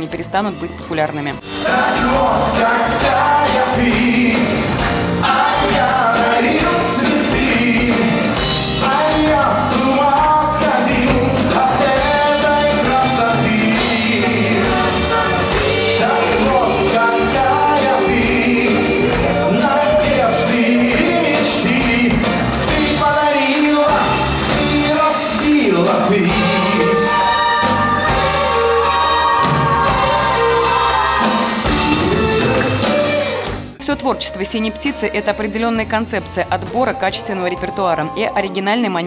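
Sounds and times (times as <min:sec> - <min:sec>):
pop-rock band with singing: 0:01.4 - 0:33.7.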